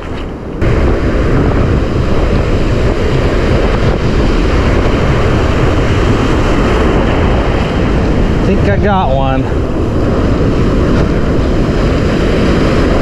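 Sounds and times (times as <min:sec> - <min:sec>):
surf breaking: 0:00.0 - 0:13.0
whitewater washing: 0:00.0 - 0:13.0
wind buffeting microphone: 0:00.0 - 0:13.0.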